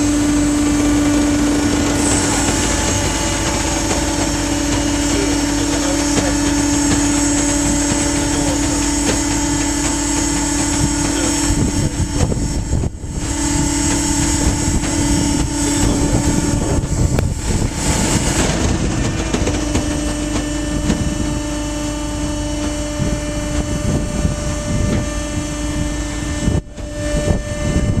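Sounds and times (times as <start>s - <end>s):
hydraulic power unit humming: 0.0s - 28.0s.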